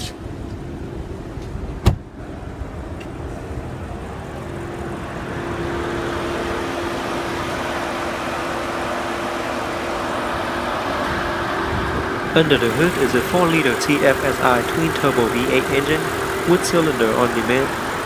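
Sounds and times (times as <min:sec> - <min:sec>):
car engine idling: 0:00.3 - 0:18.0
steady hum: 0:02.3 - 0:18.0.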